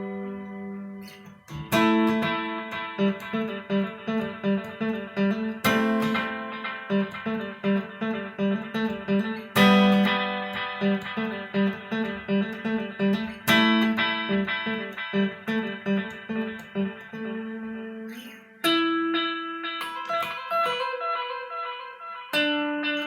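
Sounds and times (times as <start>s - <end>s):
electric guitar picked notes: 0.0s - 23.0s
electric guitar strummed chords: 0.0s - 23.0s.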